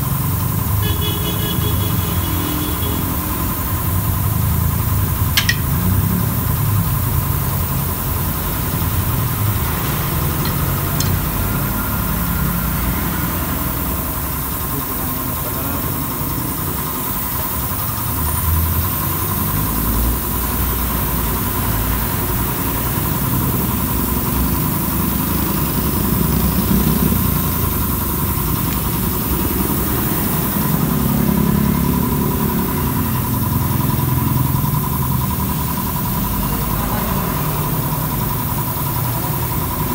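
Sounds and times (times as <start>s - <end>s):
motor idling: 0.0s - 39.9s.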